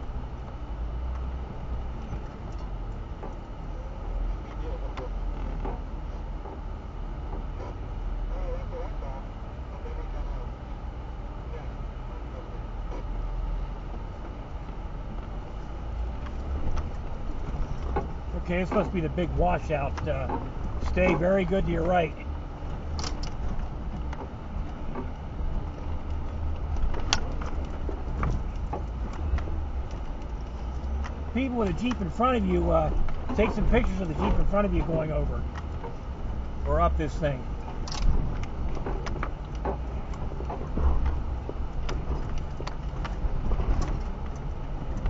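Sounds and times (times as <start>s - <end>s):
engine rumble: 0.0s - 45.0s.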